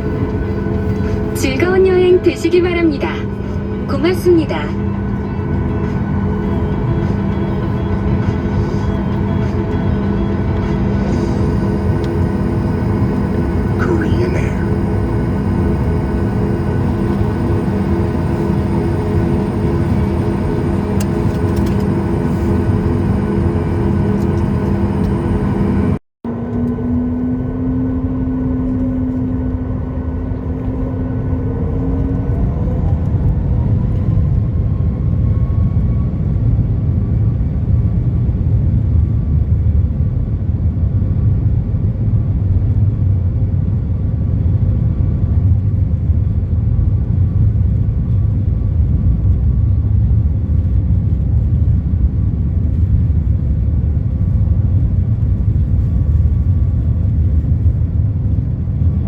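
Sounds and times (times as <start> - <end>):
jet engine whine rising: 0.0 - 59.0
low hum: 0.0 - 59.0
low rumble: 0.0 - 59.0.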